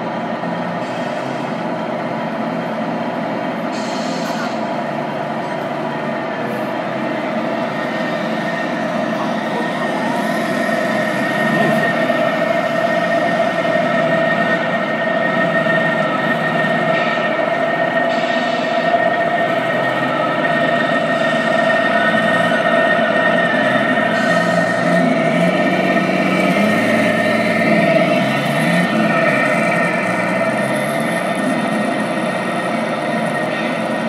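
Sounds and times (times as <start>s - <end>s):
constant high whine: 0.0s - 34.0s.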